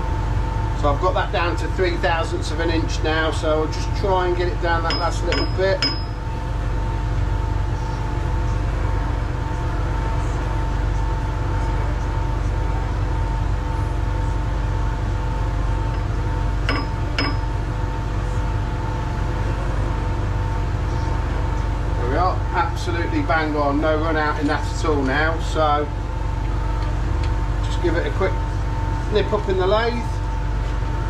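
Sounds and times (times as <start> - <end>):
lathe drive humming: 0.0 - 31.0.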